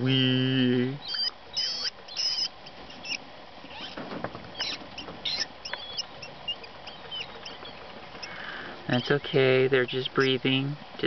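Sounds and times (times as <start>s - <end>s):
baby rabbits squeaking: 0.0s - 11.0s.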